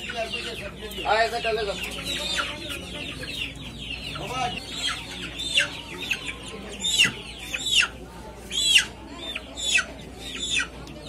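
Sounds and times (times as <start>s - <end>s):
chickens clucking and squawking: 0.0s - 11.0s.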